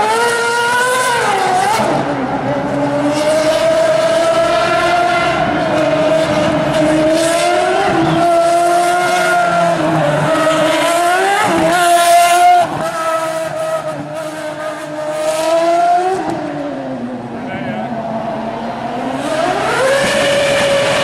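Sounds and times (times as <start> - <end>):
racing car engine at high revs: 0.0 - 21.0.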